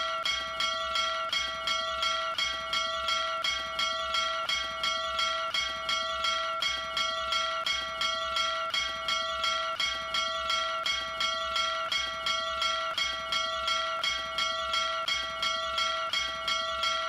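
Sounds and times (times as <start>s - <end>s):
bell ringing: 0.0s - 17.0s.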